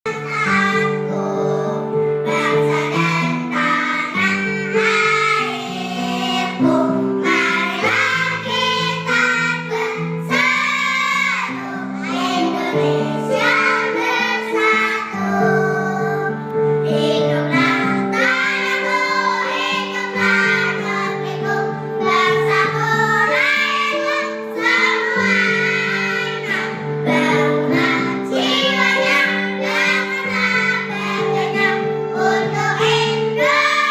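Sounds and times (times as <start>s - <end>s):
children's choir singing: 0.1s - 33.9s.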